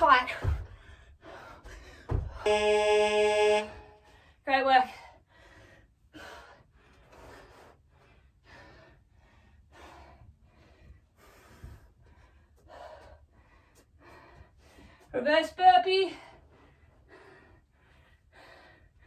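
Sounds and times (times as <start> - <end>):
person panting: 0.6 - 2.5, 4.1 - 15.1, 16.1 - 19.0.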